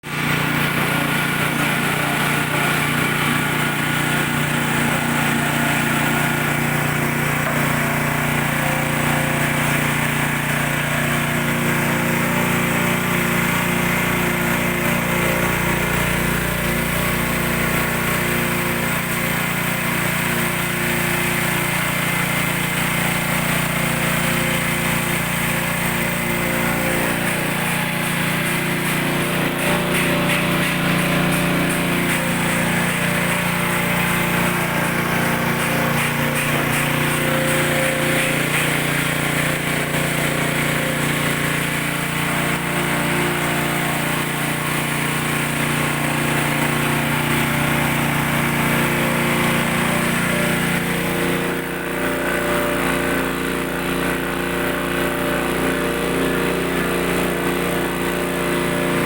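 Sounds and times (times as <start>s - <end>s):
machine motor humming: 0.0s - 58.2s.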